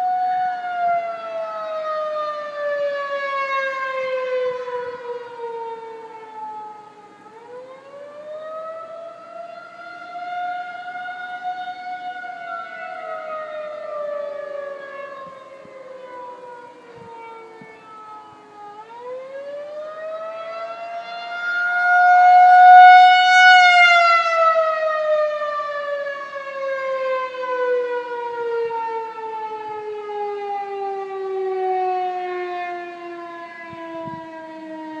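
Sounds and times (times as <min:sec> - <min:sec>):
outdoor warning siren wailing: 0:00.0 - 0:35.0.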